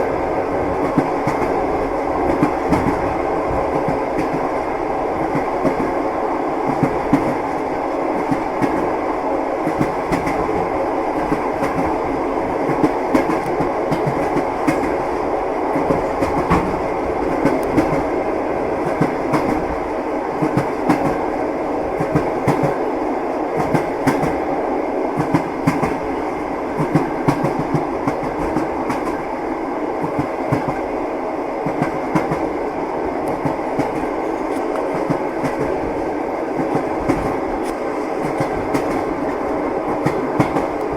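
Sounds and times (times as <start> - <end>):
train carriage rumble: 0.0 - 40.9.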